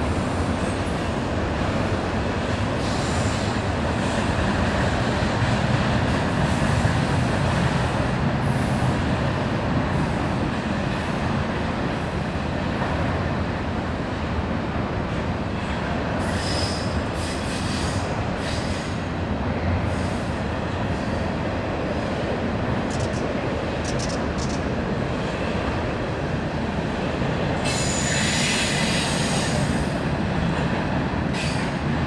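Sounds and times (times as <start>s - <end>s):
freight train rumbling over bridge: 0.0s - 32.0s.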